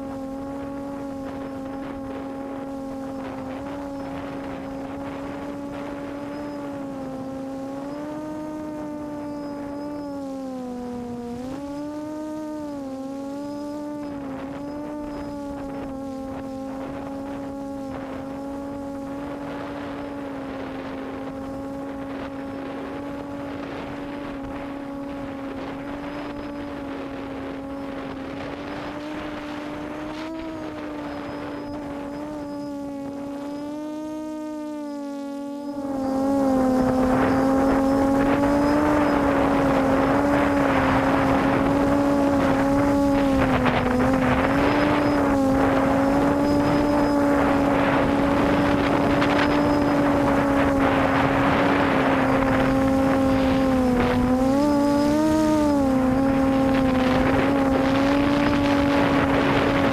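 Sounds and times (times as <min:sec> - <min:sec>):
quadcopter motors buzzing: 0:00.0 - 0:59.9.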